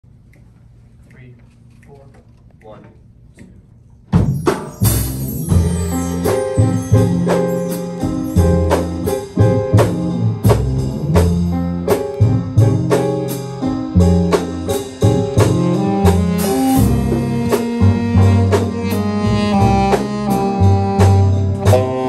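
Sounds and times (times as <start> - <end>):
drum kit keeping time: 4.0 - 22.0
jazz big band playing: 4.1 - 22.0.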